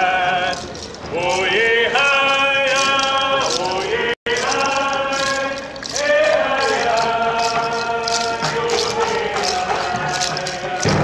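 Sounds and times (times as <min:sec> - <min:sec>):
group of voices singing: 0:00.0 - 0:11.0
steady percussion beat: 0:00.0 - 0:11.0.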